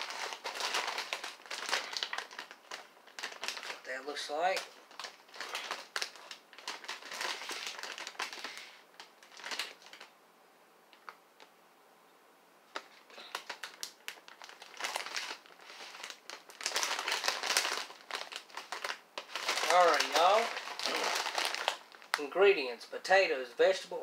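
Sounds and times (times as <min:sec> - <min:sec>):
plastic chip bag crinkling: 0:00.0 - 0:10.1, 0:12.7 - 0:22.6.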